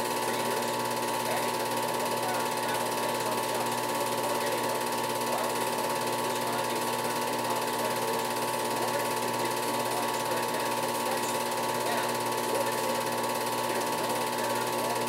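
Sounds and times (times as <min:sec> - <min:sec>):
constant projector whine: 0:00.0 - 0:15.0
film projector clatter: 0:00.0 - 0:15.0.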